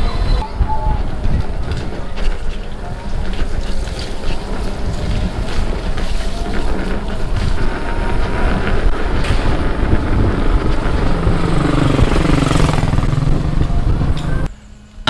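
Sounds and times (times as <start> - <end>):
low wavering motor hum: 0.0 - 14.5
wind noise on microphone: 0.0 - 14.5
tyre rumble: 0.2 - 14.5.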